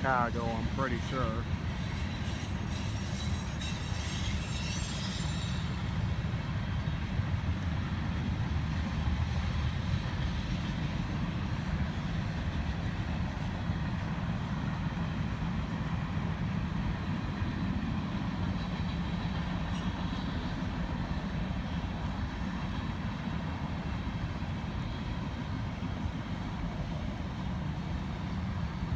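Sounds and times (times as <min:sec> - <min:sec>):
freight train rumbling past: 0:00.0 - 0:28.9.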